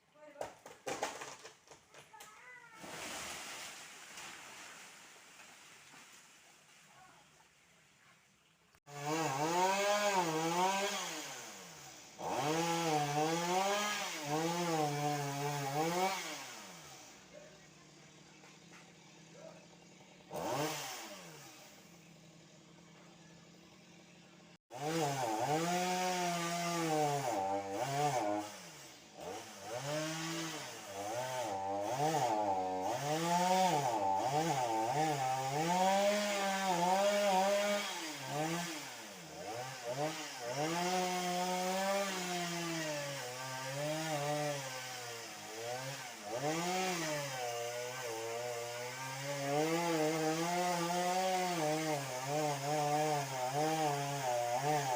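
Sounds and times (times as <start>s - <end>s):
chainsaw cutting wood: 0.4s - 6.4s, 8.8s - 54.9s
chainsaw idling: 8.9s - 54.9s.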